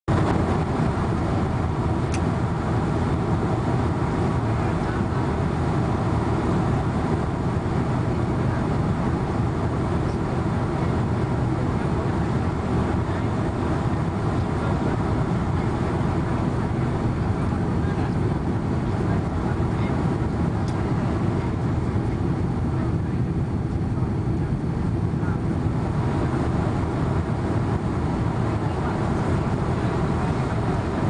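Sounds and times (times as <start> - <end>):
jet engine roar in cabin: 0.1 - 31.0.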